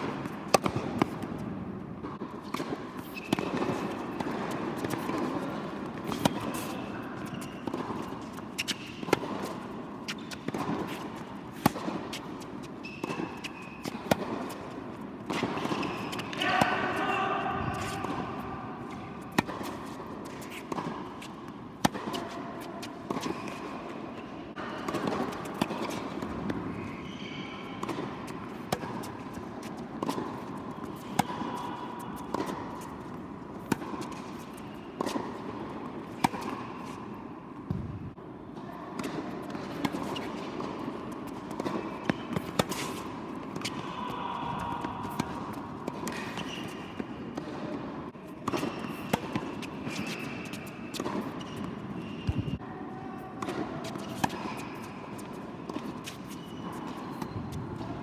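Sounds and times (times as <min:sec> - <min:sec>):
tennis ball bouncing: 0:00.0 - 0:27.1, 0:27.8 - 0:38.1, 0:39.0 - 0:52.6, 0:53.4 - 0:58.0
rackets striking tennis ball: 0:00.0 - 0:38.2, 0:39.0 - 0:52.6, 0:53.3 - 0:58.0.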